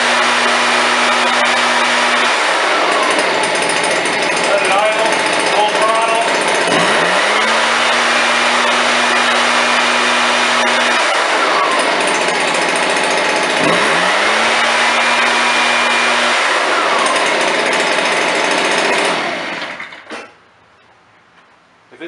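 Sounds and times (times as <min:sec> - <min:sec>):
leaf blower engine revving: 0:00.0 - 0:20.1.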